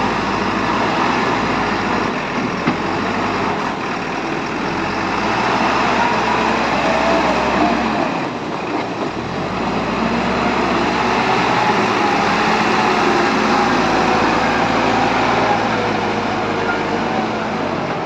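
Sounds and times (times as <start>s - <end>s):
diesel engine running loudly: 0.0s - 18.0s.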